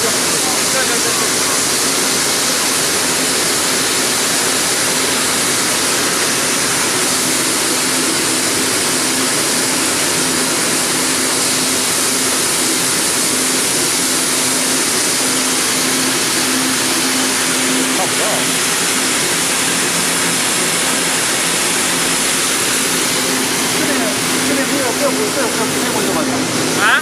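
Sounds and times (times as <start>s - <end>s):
ball mill rushing noise: 0.0s - 27.0s.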